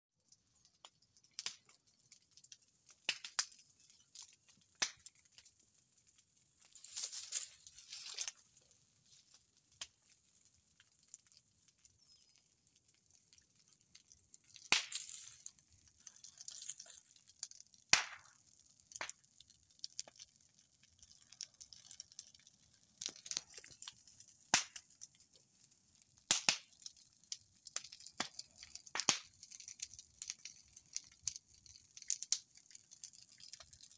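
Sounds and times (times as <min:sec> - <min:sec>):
dry leaves and bamboo crackling: 0:00.5 - 0:33.9.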